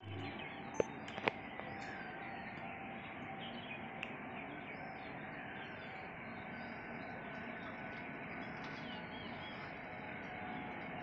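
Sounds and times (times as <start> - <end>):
small birds chirping: 0.0 - 10.8
steady outdoor hiss: 0.0 - 11.0.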